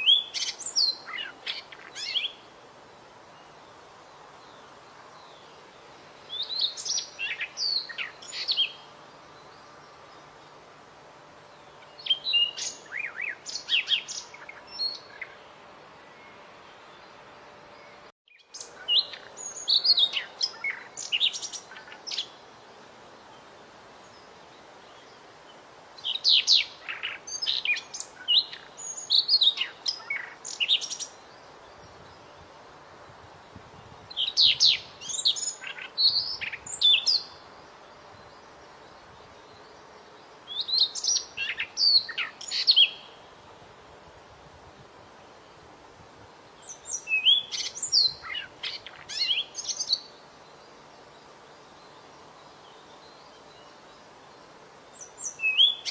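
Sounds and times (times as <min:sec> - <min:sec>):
songbird chirping and trilling: 0:00.0 - 0:43.6, 0:45.0 - 0:55.9.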